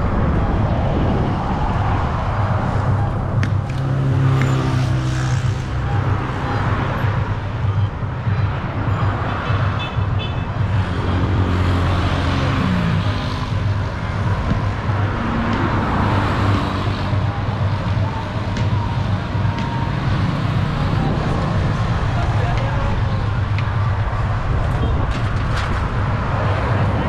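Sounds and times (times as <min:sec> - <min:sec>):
highway traffic engines humming: 0:00.0 - 0:27.0
road noise: 0:00.0 - 0:27.0.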